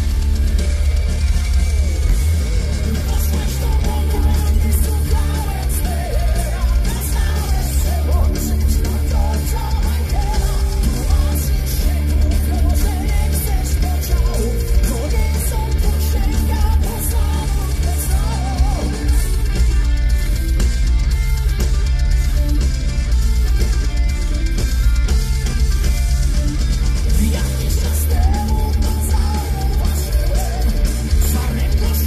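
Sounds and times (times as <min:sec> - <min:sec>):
heavy metal band playing: 0:00.0 - 0:32.0.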